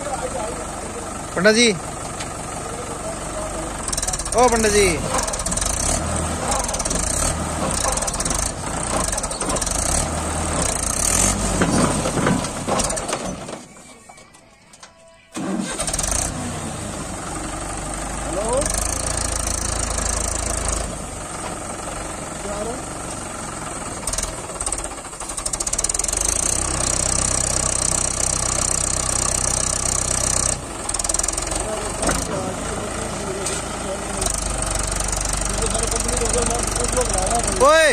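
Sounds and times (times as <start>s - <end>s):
tractor diesel engine straining: 0.0s - 37.9s.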